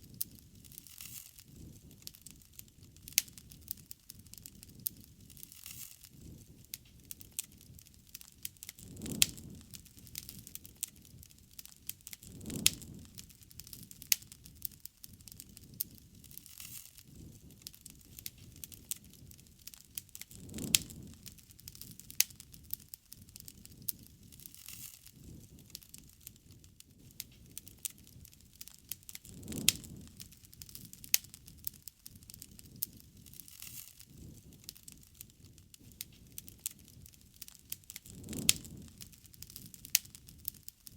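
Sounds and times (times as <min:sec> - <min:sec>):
loud fire pops: 0:00.0 - 0:40.9
low rumble of flame: 0:00.0 - 0:40.9
wood fire crackling: 0:00.0 - 0:40.9.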